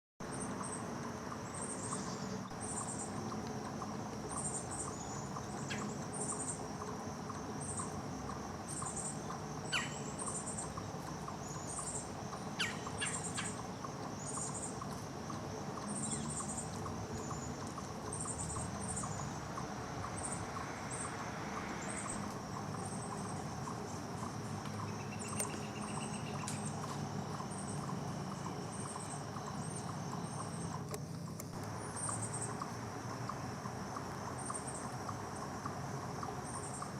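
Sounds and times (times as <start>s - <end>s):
high insect drone: 0.2s - 36.9s.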